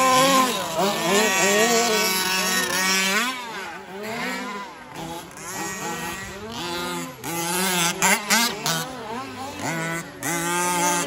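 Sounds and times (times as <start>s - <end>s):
small two-stroke engines revving: 0.0s - 11.0s.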